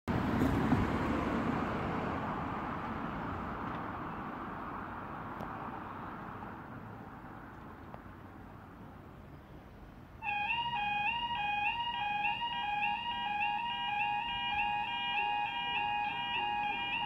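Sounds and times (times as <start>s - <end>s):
road vehicle rumbling away: 0.1s - 17.0s.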